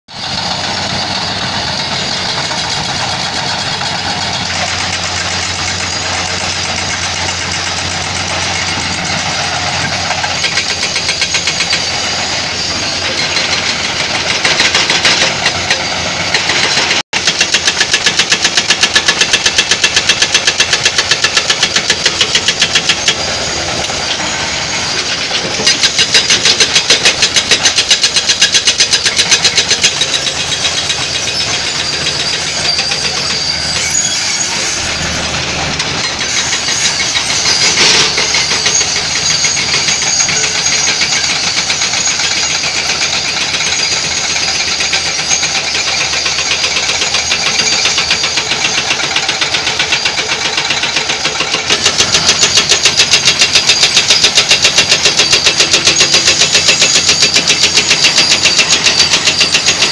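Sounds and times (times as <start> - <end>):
bulldozer clatter: 0.1 - 59.9
heavy diesel engines running: 0.1 - 59.9.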